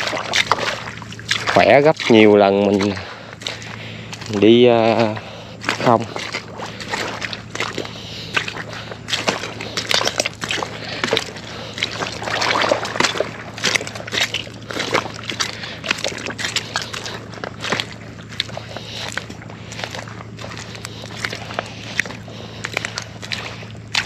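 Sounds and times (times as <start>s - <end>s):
footsteps squelching through mud: 0.0s - 24.0s.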